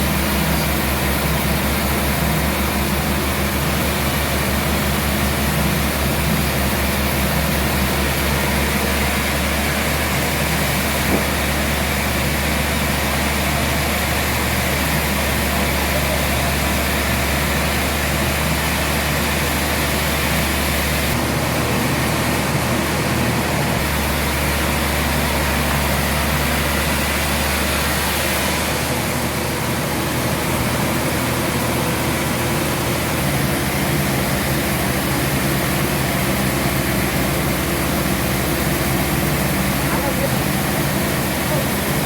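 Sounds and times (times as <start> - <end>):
sawmill machinery droning: 0.0 - 42.0.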